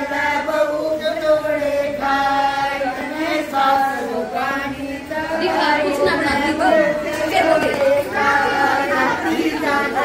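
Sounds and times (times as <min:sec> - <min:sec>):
voices singing a slow chant: 0:00.0 - 0:10.0.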